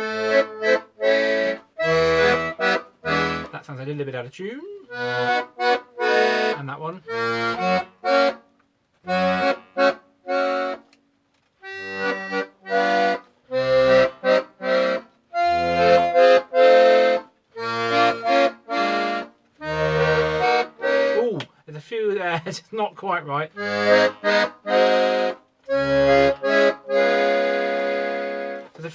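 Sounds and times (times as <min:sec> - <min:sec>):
accordion bass notes and chords: 0:00.0 - 0:28.9.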